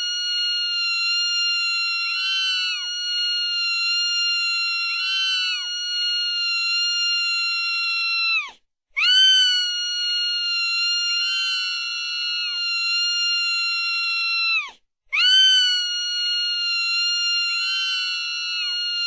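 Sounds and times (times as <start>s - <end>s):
woman screaming high-pitched: 0.0s - 19.0s.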